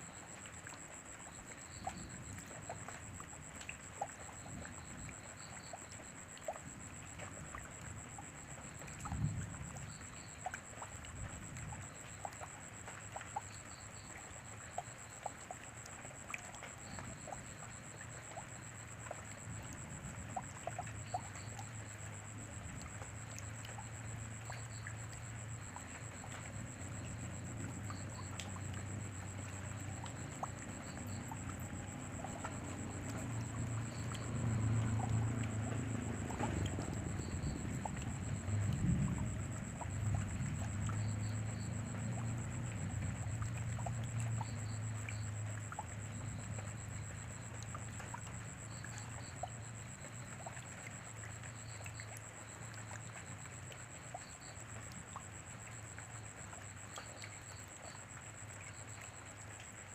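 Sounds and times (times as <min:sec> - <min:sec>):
rain drops pattering: 0:00.0 - 0:59.9.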